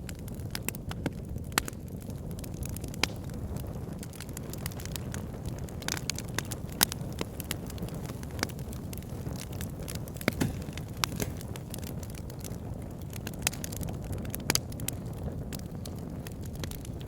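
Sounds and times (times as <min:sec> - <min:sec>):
fire flames rumbling: 0:00.0 - 0:17.0
wood crackling and popping: 0:00.0 - 0:17.0.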